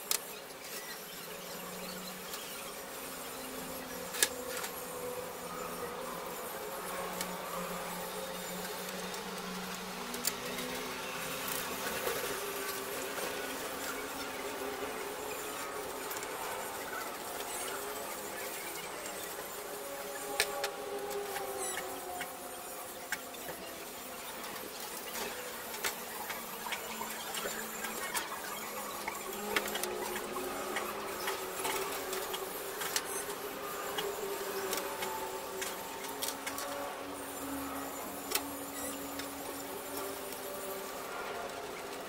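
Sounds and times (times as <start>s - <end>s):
wavering background tones: 0.0s - 42.0s.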